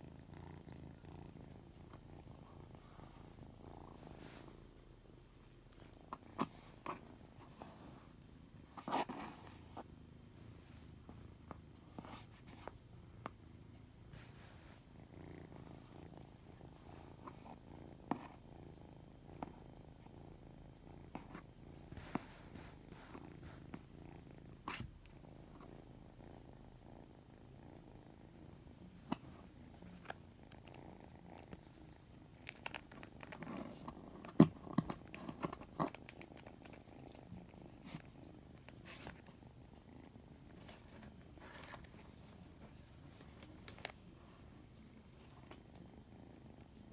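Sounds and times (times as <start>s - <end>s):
kitten purring: 0.0s - 46.9s.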